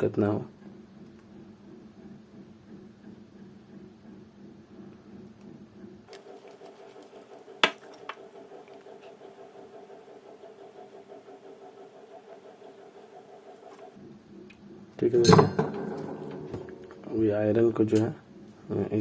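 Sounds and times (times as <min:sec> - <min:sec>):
pulsing machine hum: 0:00.0 - 0:19.0.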